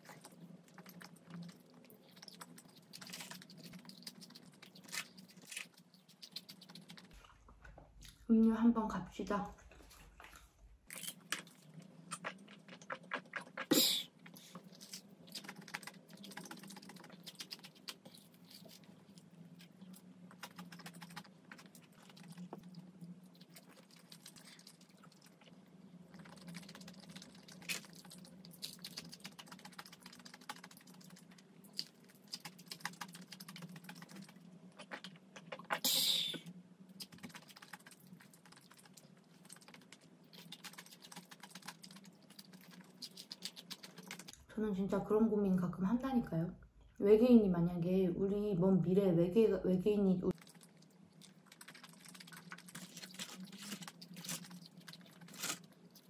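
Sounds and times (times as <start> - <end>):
person chewing food: 0.0 - 8.3, 9.7 - 35.8, 36.9 - 44.4, 50.3 - 56.0.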